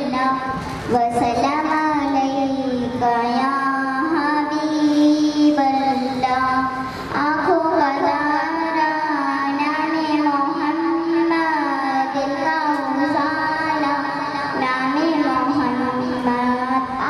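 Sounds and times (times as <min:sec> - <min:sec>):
girl singing into microphone: 0:00.0 - 0:17.0.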